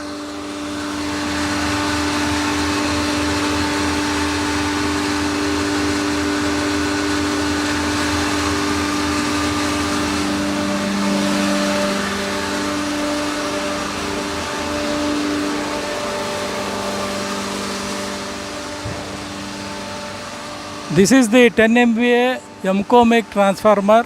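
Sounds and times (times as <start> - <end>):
vacuum pumps humming: 0.0 - 24.0.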